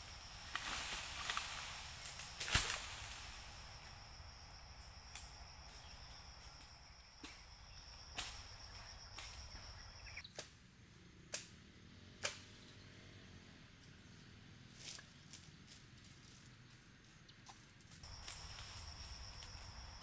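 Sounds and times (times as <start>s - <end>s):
insects calling: 0.0s - 20.0s.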